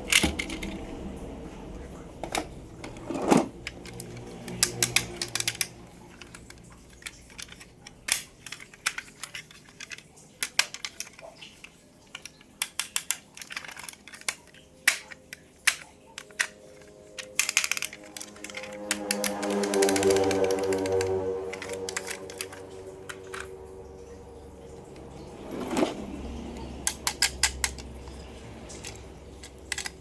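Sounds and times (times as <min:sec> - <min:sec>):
toy cars and plastic packaging clicks: 0:00.0 - 0:01.2, 0:02.2 - 0:23.9, 0:24.8 - 0:30.0.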